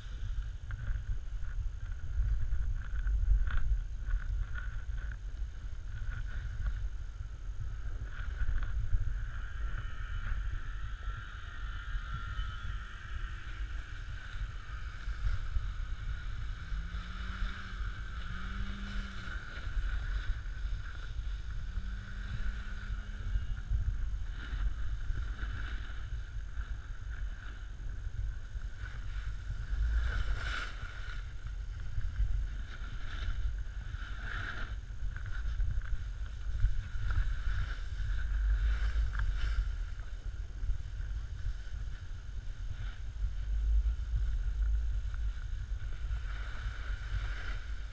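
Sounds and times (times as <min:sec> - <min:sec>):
snowboard scraping over snow: 0:00.0 - 0:47.9
wind buffeting microphone: 0:00.0 - 0:47.9.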